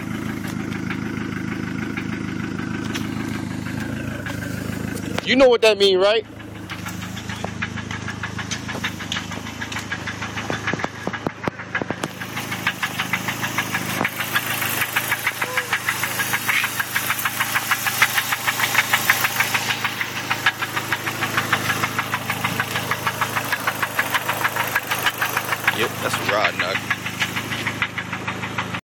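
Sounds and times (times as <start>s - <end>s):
car engine running: 0.0s - 28.8s
rapid regular engine knocking: 0.0s - 28.8s.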